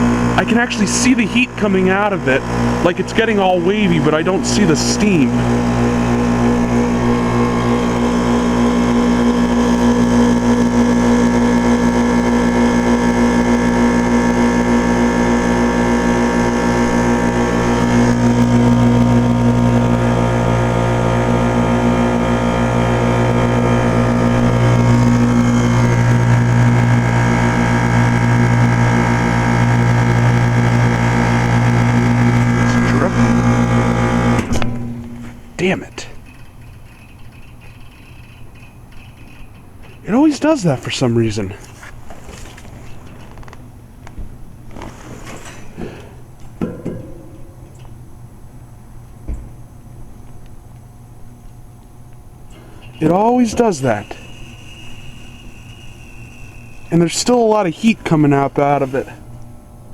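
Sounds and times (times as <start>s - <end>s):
heat pump compressor humming: 0.0s - 59.9s.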